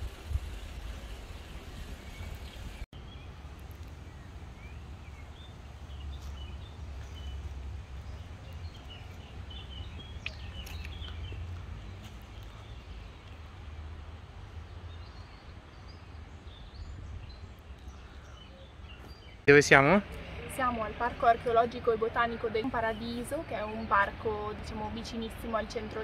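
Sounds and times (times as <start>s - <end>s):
small birds chirping: 1.9s - 13.6s, 14.6s - 26.0s.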